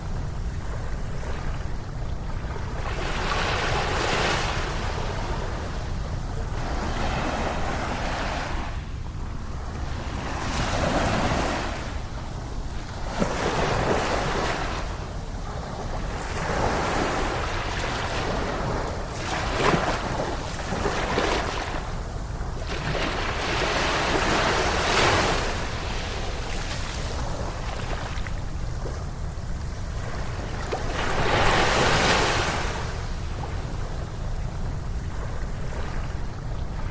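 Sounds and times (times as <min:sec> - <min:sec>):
ocean waves breaking: 0:00.0 - 0:36.9
wind rumble on microphone: 0:00.0 - 0:36.9.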